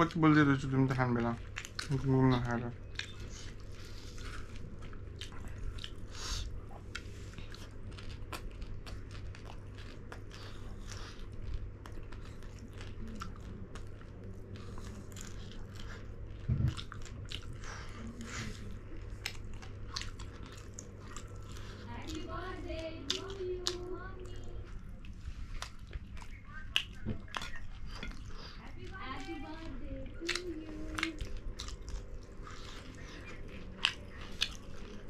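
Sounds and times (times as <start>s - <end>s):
people chewing crunchy food: 0.0s - 35.0s.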